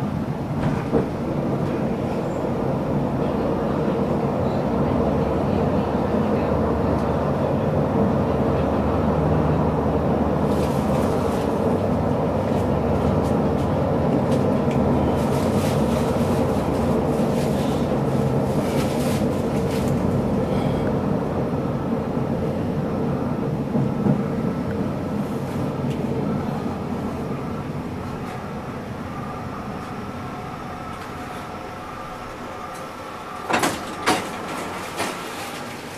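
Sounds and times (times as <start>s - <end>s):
tram running gear rumble: 0.0s - 35.9s
wheels clicking and hissing on rails: 0.0s - 35.9s.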